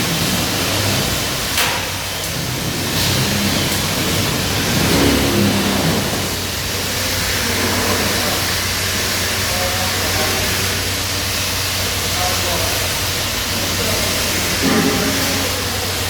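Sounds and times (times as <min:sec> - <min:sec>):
industrial washing machine running: 0:00.0 - 0:16.0.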